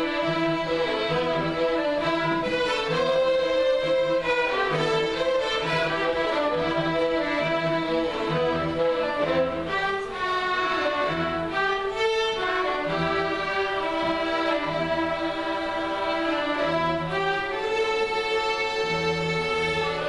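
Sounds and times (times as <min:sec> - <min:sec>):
string orchestra playing: 0:00.0 - 0:20.0.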